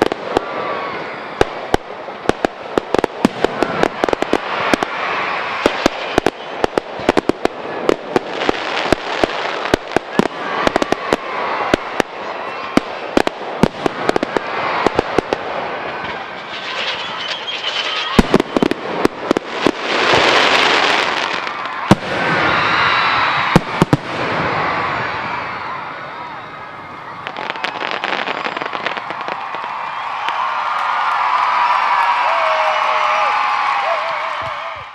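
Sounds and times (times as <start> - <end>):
fireworks bangs: 0.0 - 34.9
fireworks crackling: 0.0 - 34.9.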